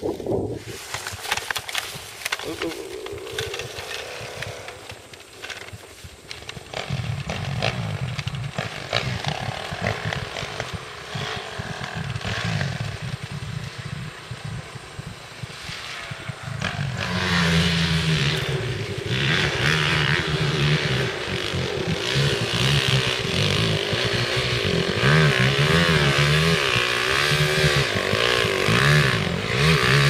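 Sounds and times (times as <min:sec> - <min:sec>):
dirt bike engines revving: 0:00.6 - 0:30.0.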